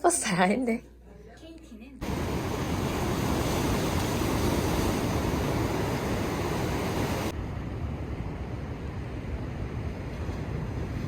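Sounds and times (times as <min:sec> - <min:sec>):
steady rushing noise: 0:02.0 - 0:11.0.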